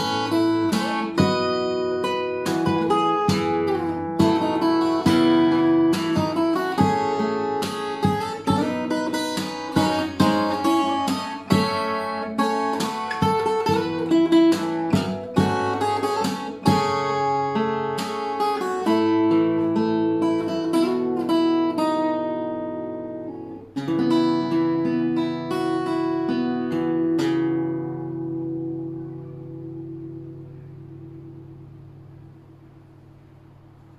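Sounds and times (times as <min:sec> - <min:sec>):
acoustic guitar fingerstyle: 0:00.0 - 0:33.9.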